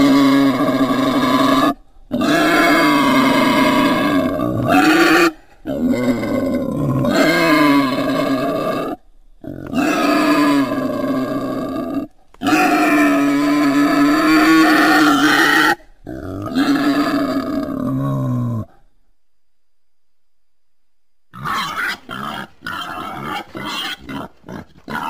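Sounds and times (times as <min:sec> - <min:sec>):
wild boar calls: 0:00.0 - 0:18.8, 0:21.3 - 0:25.0.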